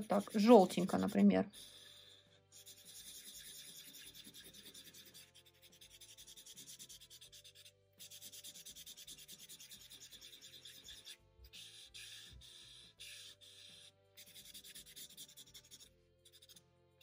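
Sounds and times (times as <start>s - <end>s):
marker scribbling on paper: 0.0s - 16.6s.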